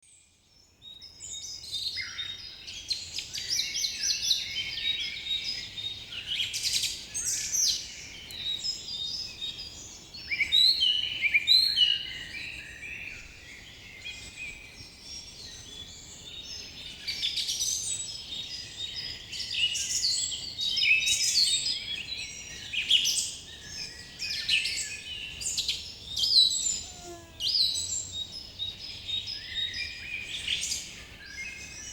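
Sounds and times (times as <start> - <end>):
songbirds chirping: 0.1 - 31.9.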